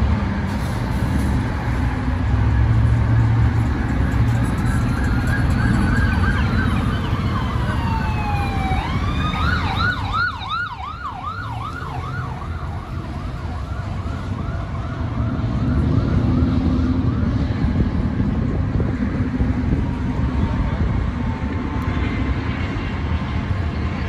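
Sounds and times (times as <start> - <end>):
emergency vehicle siren: 0.0 - 24.0
freeway traffic rumble: 0.0 - 24.0.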